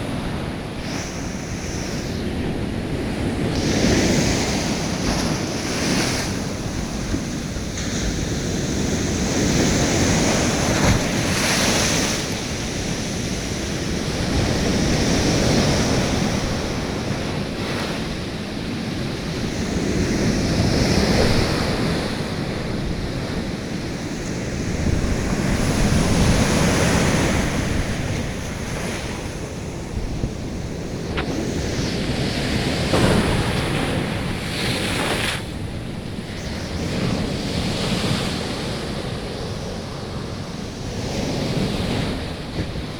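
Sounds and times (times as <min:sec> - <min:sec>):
sea waves breaking: 0:00.0 - 0:42.9
wind buffeting microphone: 0:00.0 - 0:42.9.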